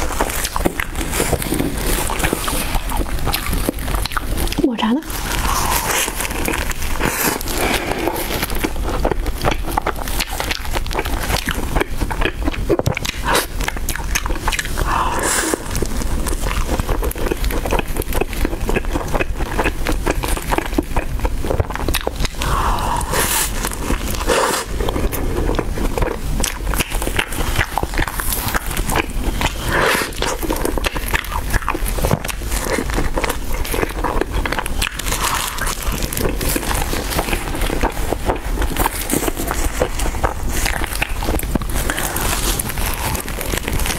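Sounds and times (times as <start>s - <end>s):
close chewing mouth clicks: 0.0s - 43.9s.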